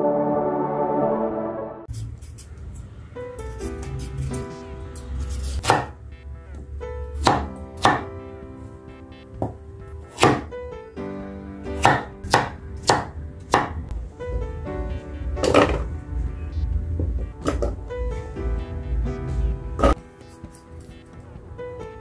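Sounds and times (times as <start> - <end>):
soft background music: 0.0 - 22.0.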